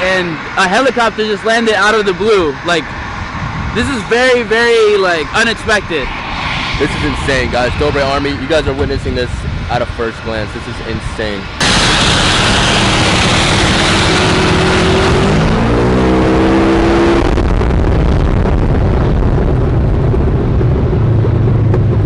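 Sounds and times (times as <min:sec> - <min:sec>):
helicopter turbine and rotor: 0:00.0 - 0:22.0
rising droning tone: 0:00.0 - 0:22.0.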